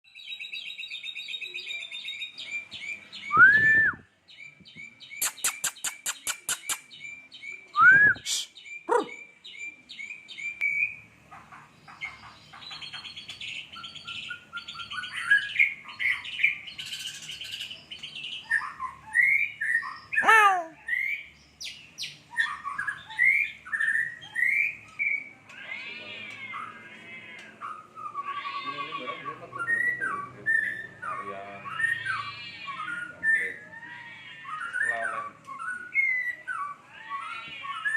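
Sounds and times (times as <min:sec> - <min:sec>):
bird singing varied song: 0:00.1 - 0:37.9.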